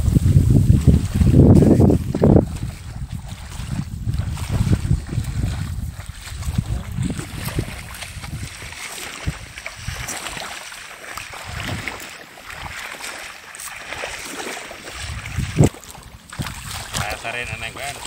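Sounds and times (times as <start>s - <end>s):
wind on microphone: 0.0s - 13.1s, 13.7s - 18.0s
sharp loud splash: 0.0s - 18.0s
water sloshing as people wade: 0.0s - 18.0s.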